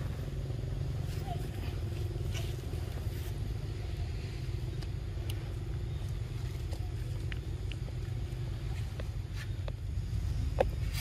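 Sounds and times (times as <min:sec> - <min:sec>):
faint steady hum: 0:00.0 - 0:11.0
low engine rumble: 0:00.0 - 0:11.0.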